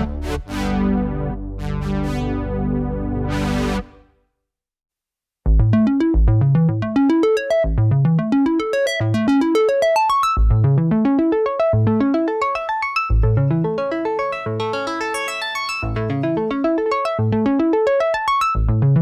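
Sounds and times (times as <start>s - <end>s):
synthesizer arpeggio: 0.0s - 4.0s, 5.8s - 18.6s.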